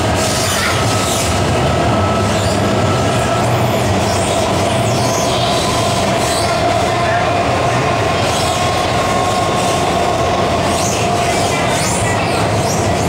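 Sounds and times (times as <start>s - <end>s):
rumble of wheels on rail: 0.0s - 13.0s
steady whine: 0.0s - 13.0s.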